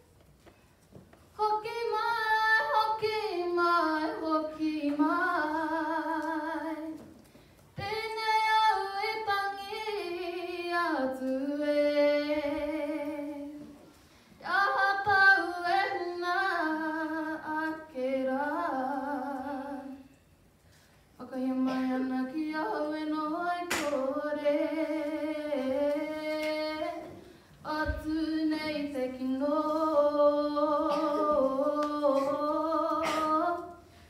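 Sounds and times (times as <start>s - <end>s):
woman singing unaccompanied: 1.4s - 7.1s, 7.8s - 13.8s, 14.4s - 20.1s, 21.2s - 33.8s.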